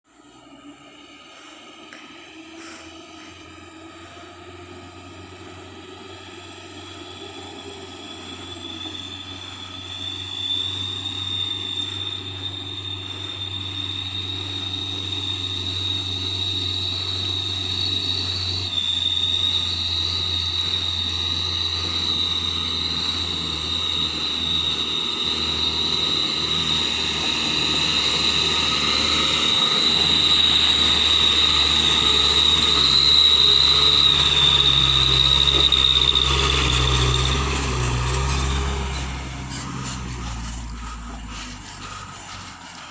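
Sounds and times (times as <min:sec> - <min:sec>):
high-pitched whine: 0:00.1 - 0:42.9
truck engine running under load: 0:00.1 - 0:42.9.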